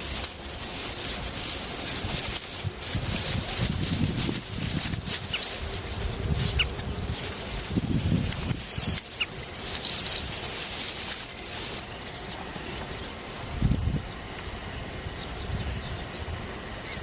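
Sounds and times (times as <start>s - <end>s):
gusty low rumble: 0.0s - 16.5s
outdoor hiss: 0.0s - 17.0s.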